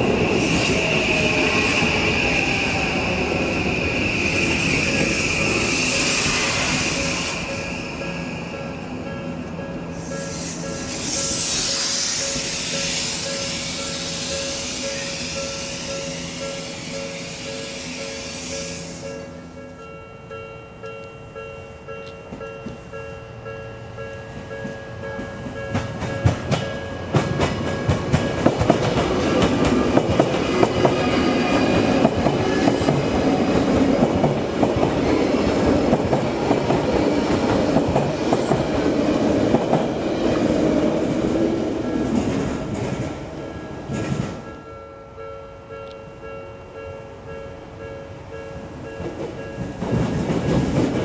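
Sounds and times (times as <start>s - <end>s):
electric train passing: 0.0s - 51.0s.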